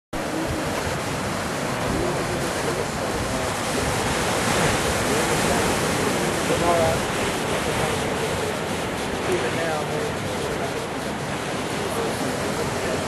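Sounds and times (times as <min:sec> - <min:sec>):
ocean surf rushing: 0:00.1 - 0:13.0
wind on microphone: 0:00.1 - 0:13.0
faint voices talking: 0:00.2 - 0:13.0.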